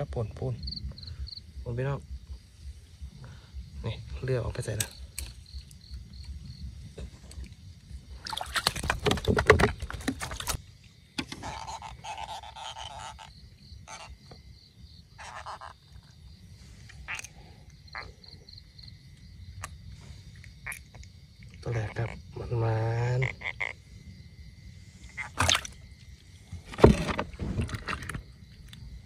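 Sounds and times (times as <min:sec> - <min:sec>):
frogs croaking: 0:00.0 - 0:29.0
insects chirping: 0:00.0 - 0:29.0.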